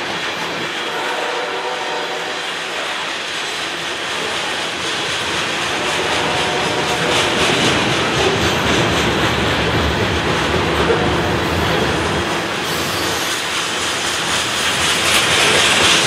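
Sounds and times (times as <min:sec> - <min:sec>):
train wheels rumbling on rails: 0:00.0 - 0:16.0
wheels clicking over rail joints: 0:02.6 - 0:16.0.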